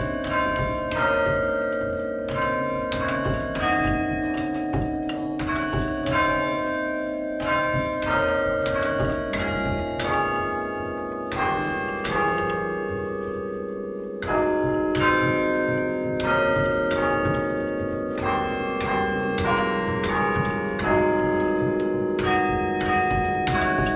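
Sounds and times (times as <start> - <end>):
church bells chiming: 0.0 - 23.9.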